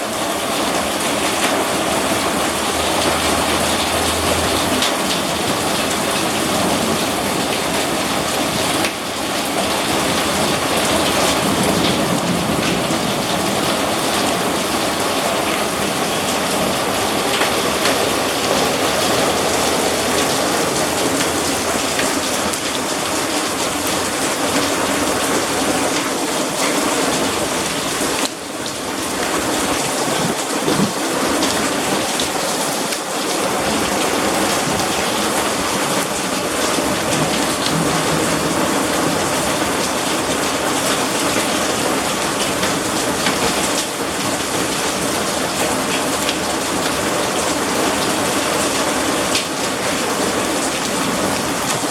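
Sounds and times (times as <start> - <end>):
heavy rain drumming on surfaces: 0.0 - 51.9.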